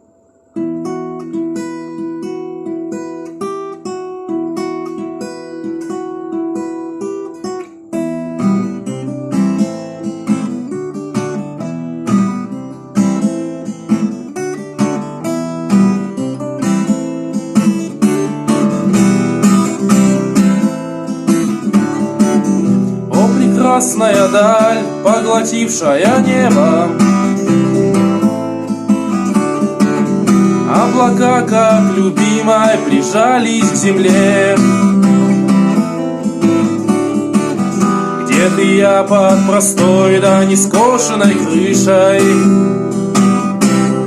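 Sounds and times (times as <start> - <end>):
acoustic guitar playing: 0.0 - 44.0.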